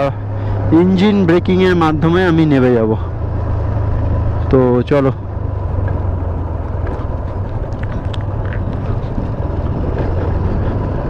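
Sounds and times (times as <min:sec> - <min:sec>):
motorcycle engine running: 0:00.0 - 0:11.0
steady rushing noise: 0:00.0 - 0:11.0.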